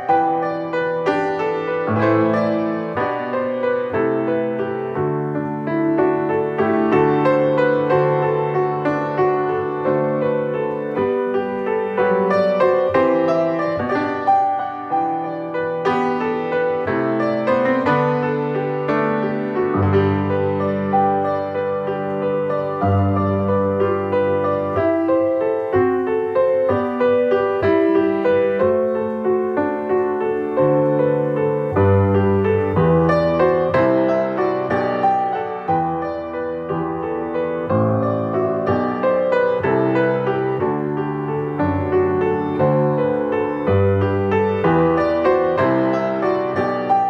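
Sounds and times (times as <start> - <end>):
solo piano piece: 0.0 - 47.0.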